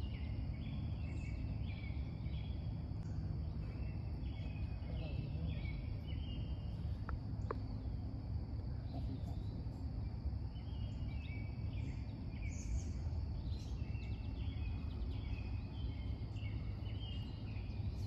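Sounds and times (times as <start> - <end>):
birds chirping: 0.0 - 18.0
low background rumble: 0.0 - 18.0.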